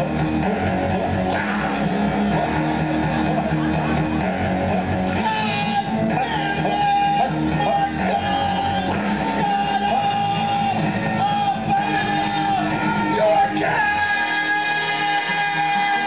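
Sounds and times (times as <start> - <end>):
amplified rock music with guitar: 0.0 - 16.0
men singing and shouting: 0.0 - 16.0.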